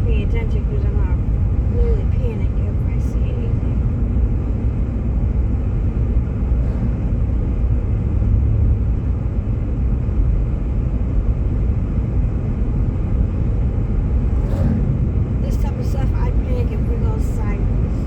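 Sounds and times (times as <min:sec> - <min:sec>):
car driving on snowy road: 0:00.0 - 0:18.0.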